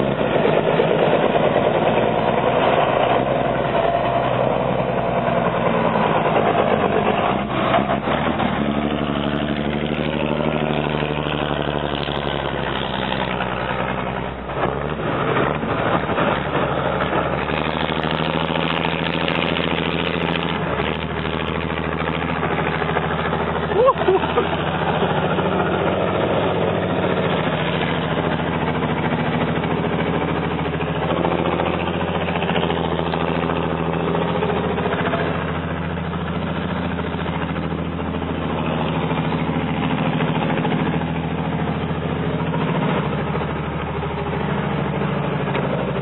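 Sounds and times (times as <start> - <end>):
heavy truck engine running: 0.0 - 46.0.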